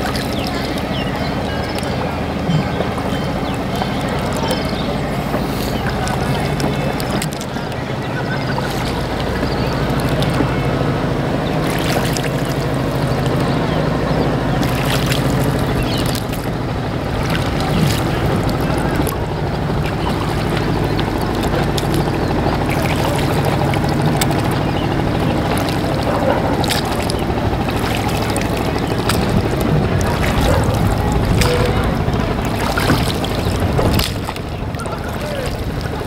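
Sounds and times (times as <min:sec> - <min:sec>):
low rumble of water: 0:00.0 - 0:36.0
oar splashing and knocking: 0:00.0 - 0:36.0
wind: 0:00.0 - 0:36.0.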